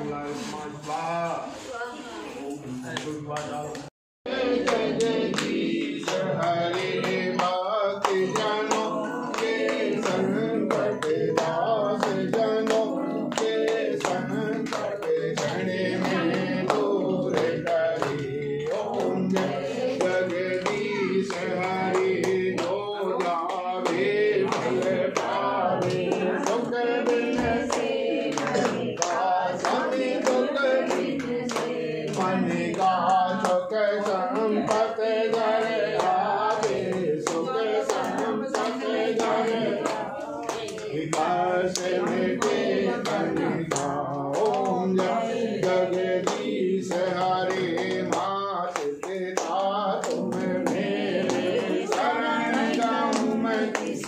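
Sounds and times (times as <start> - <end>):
rhythmic hand clapping: 2.9 - 54.0
voices singing a hymn: 4.3 - 54.0.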